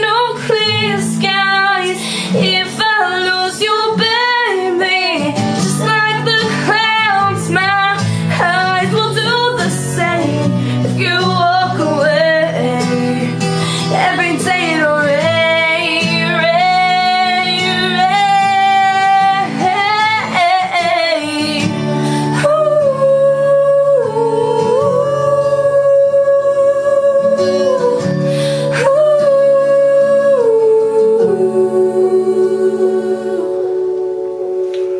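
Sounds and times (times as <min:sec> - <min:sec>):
guitar accompaniment: 0:00.0 - 0:34.9
woman singing with vibrato: 0:00.0 - 0:34.9.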